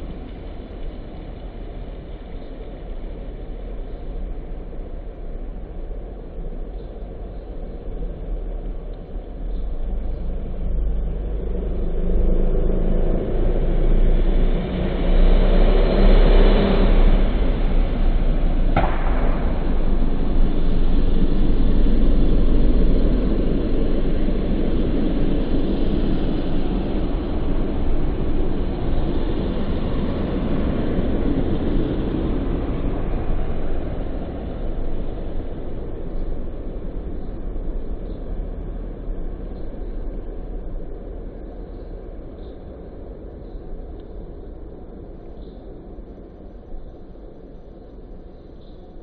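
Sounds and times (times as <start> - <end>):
low rumbling outdoor noise: 0.0 - 49.0.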